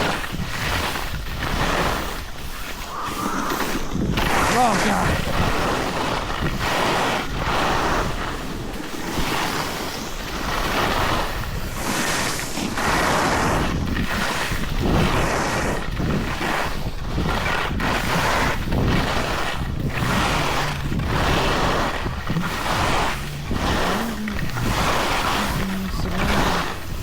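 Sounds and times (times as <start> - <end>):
ski edges scraping snow: 0.0 - 27.0
wind buffeting microphone: 0.0 - 27.0.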